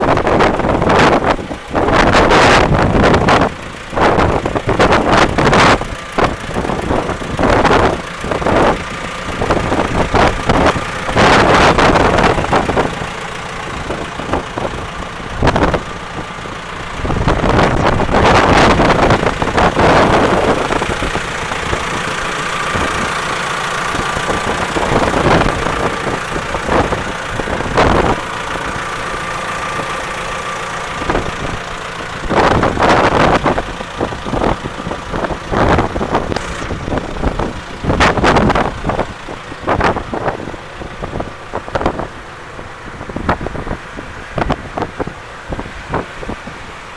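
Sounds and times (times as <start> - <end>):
diesel engine idling: 0.0 - 46.9
loud gusts of noise: 0.0 - 46.9.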